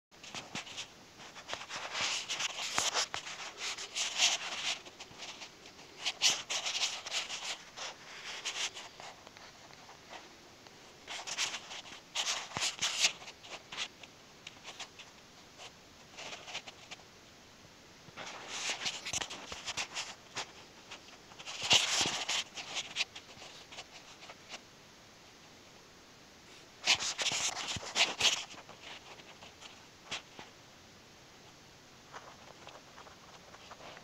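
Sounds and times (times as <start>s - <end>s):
rubbing and scraping on microphone: 0.2s - 10.3s, 10.9s - 17.1s, 18.1s - 24.6s, 26.5s - 30.6s, 32.1s - 34.0s.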